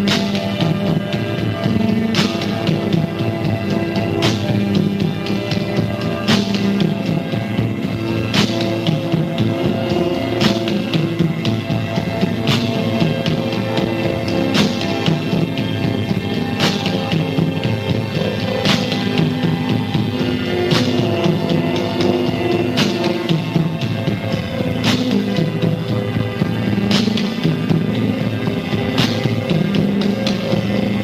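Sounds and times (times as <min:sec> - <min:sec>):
drum or cymbal hits: 0:00.0 - 0:31.0
rock band playing slow chords: 0:00.0 - 0:31.0.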